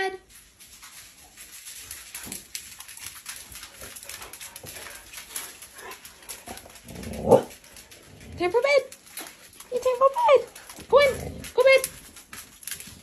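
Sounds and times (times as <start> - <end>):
dog claws clicking on laminate floor: 0.5 - 13.0.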